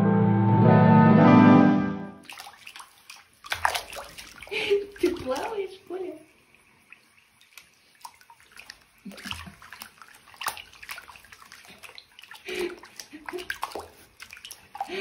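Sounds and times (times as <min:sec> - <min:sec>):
water splashing and sloshing: 0:02.2 - 0:15.0.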